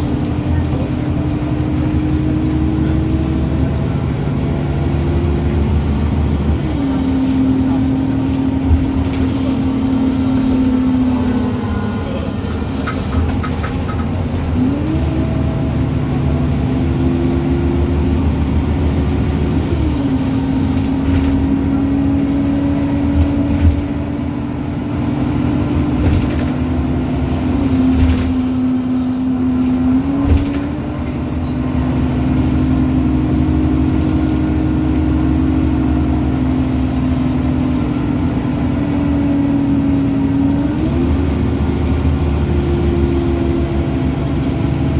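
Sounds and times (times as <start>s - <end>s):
engine and road rumble: 0.0s - 44.9s
bus gearbox whine: 1.3s - 44.9s.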